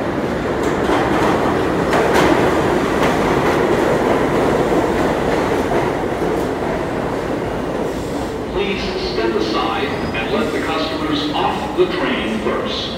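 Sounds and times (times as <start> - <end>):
subway train rumbling: 0.0 - 12.9.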